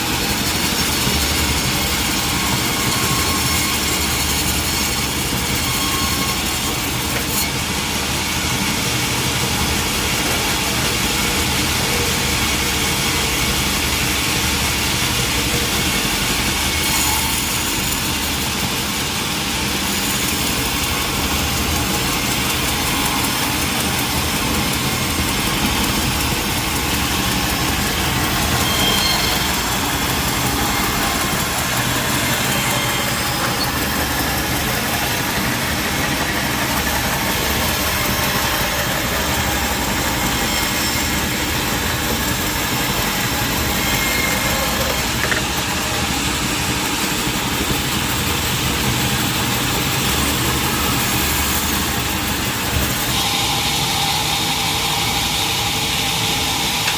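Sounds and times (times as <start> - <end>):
sawmill machinery humming: 0.0 - 56.9.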